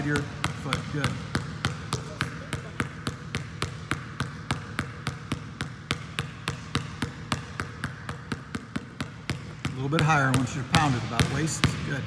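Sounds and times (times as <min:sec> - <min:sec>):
basketball bouncing on gym floor: 0:00.0 - 0:12.0.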